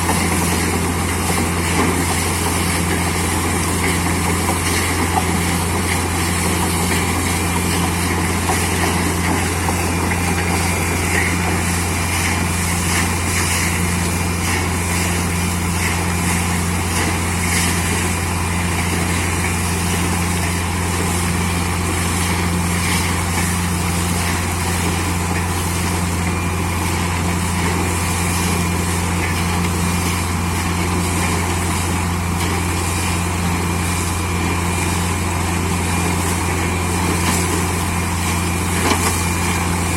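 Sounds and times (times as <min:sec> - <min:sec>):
drilling rig engine drone: 0:00.0 - 0:39.9.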